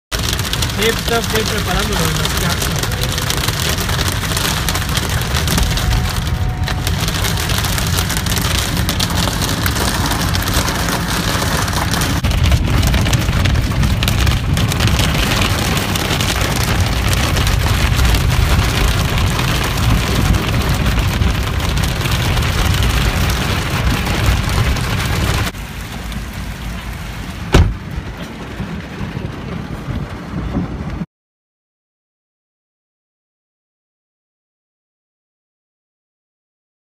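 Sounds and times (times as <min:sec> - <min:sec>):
heavy rain drumming on car roof: 0:00.1 - 0:31.1
rain falling on flooded street: 0:00.1 - 0:31.1.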